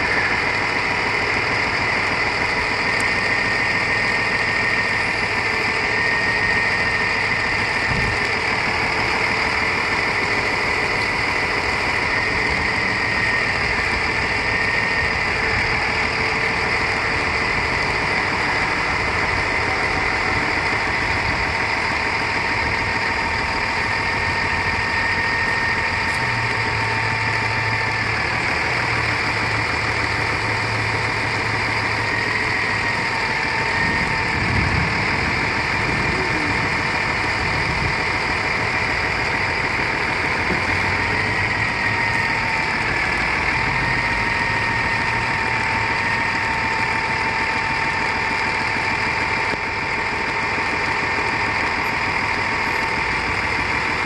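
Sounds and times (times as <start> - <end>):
steady high tone: 0.0 - 48.7
truck diesel engine idling: 0.0 - 54.0.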